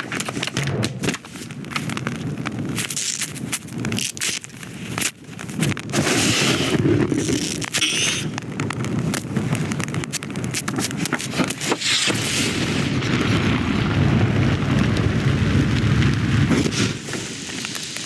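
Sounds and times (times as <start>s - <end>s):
fire rushing and crackling: 0.0s - 18.0s.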